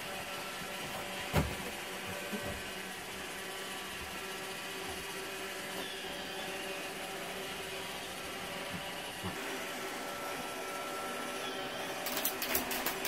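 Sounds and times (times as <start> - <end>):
robot vacuum whirring hum: 0.0 - 13.0.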